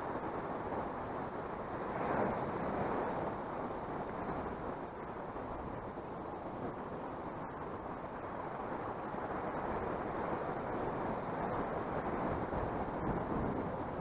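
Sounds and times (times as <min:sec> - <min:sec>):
sea surf on rocky shore: 0:00.0 - 0:14.0
wind buffeting microphone: 0:00.0 - 0:14.0.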